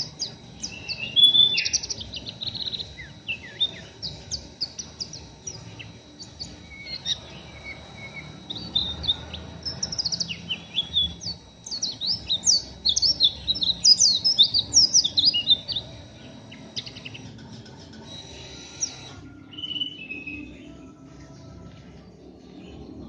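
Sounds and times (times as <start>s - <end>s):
bird twittering: 0.0s - 20.6s.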